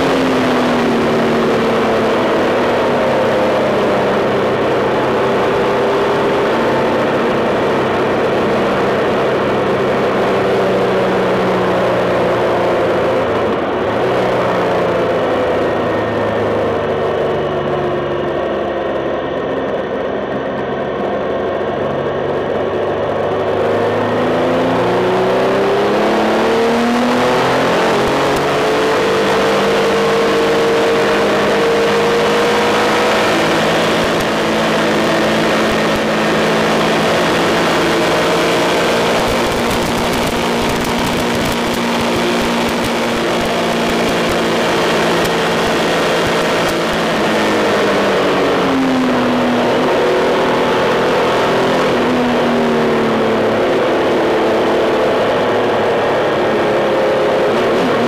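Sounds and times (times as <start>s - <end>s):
motorcycle engine accelerating hard: 0.0s - 58.0s.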